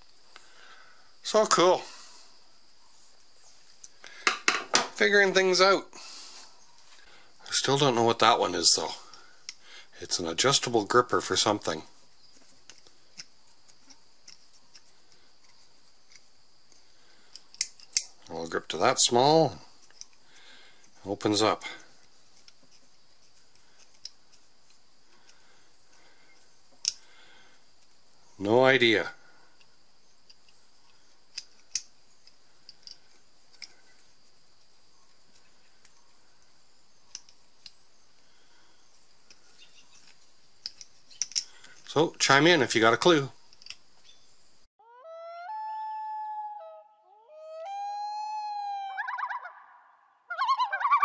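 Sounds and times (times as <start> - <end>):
faint steady hiss: 0.0 - 44.7.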